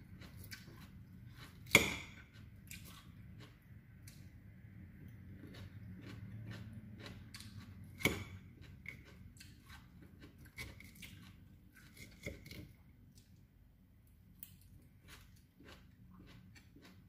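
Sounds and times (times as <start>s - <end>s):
person chewing: 0.0s - 13.4s, 14.3s - 17.0s.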